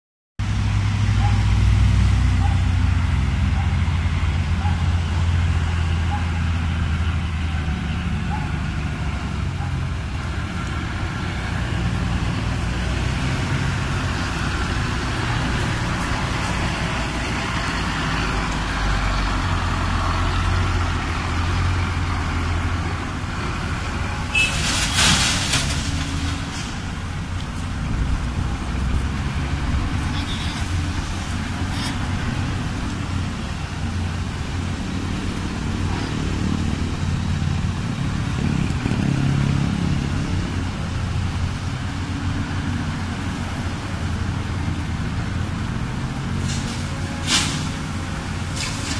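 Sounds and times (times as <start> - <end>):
truck diesel engine rumbling: 0.4 - 48.9.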